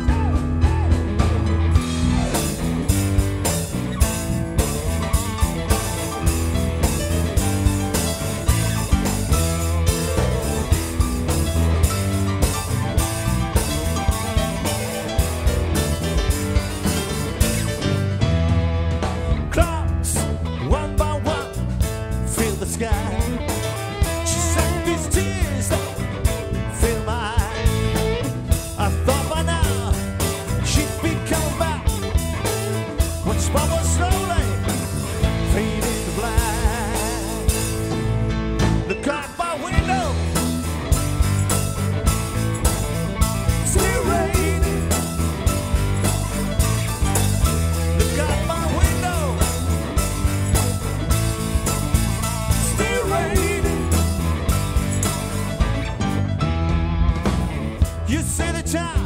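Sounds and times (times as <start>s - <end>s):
electric guitar lead bent notes: 0.0s - 58.2s
drums: 0.0s - 59.0s
live rock band playing: 0.0s - 59.0s.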